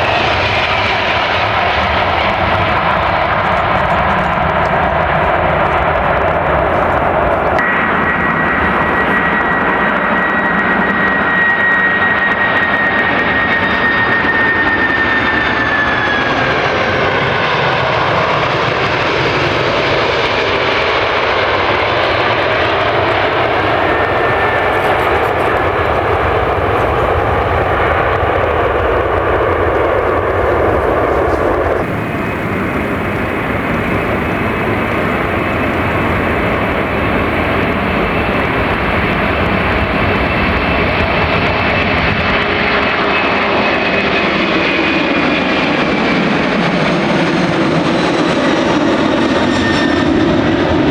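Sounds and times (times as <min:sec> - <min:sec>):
jet engines whining: 0:00.0 - 0:50.9.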